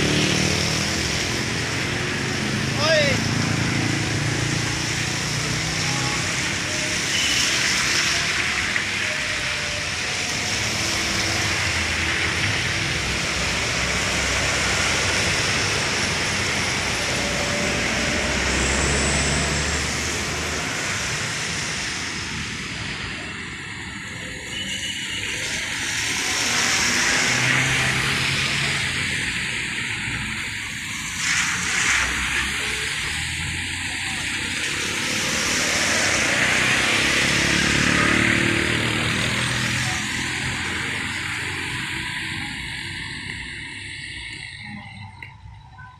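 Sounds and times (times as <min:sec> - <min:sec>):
vehicles passing on wet road: 0:00.0 - 0:45.6.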